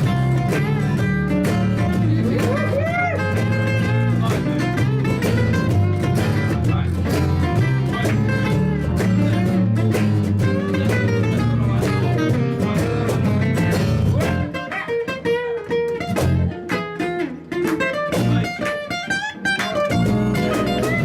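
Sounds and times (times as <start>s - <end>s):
guitar lines: 0.0s - 21.0s
live blues band playing: 0.0s - 21.0s.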